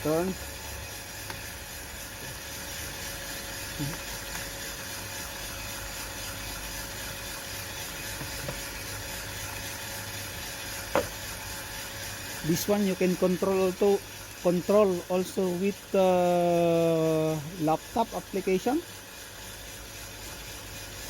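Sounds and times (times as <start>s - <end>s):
coffee roaster whirring: 0.0s - 21.0s.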